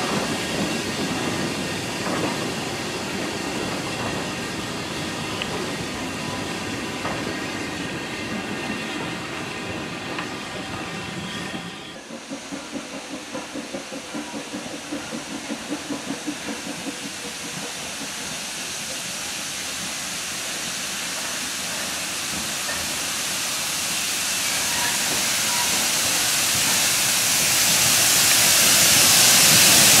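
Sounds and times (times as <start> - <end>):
carriages rumbling on track: 0.0 - 30.0
steam hissing: 0.0 - 30.0
steam locomotive exhaust beats: 0.0 - 30.0.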